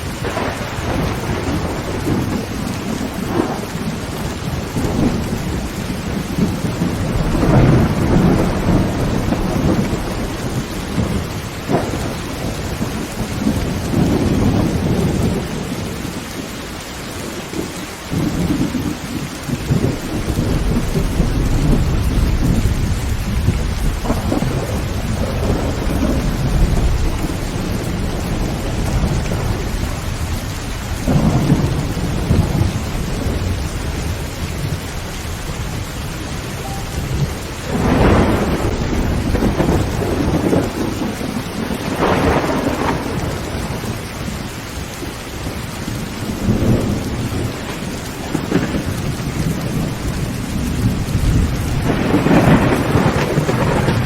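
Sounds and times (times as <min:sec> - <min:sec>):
loud thunder peals: 0:00.0 - 0:15.9, 0:18.1 - 0:34.8, 0:35.4 - 0:44.4, 0:45.8 - 0:54.0
low thunder rumble: 0:00.0 - 0:16.2, 0:17.6 - 0:54.0
heavy rain on a tin roof: 0:00.0 - 0:54.0.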